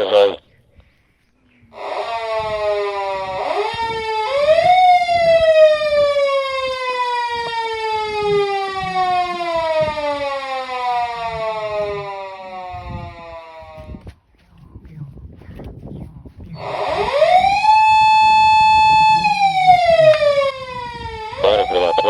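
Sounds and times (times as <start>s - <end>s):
police siren wailing: 1.8s - 14.0s, 16.6s - 22.0s.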